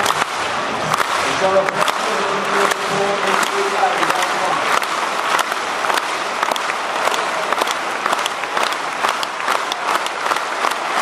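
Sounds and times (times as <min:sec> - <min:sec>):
crowd rhythmic clapping: 0:00.0 - 0:11.0.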